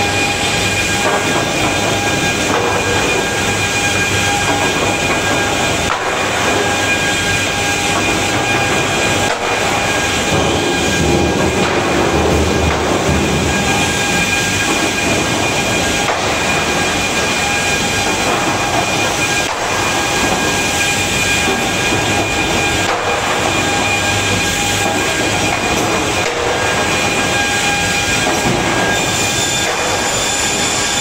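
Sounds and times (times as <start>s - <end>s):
conveyor rollers rumbling: 0.0s - 31.0s
machine whines: 0.0s - 31.0s.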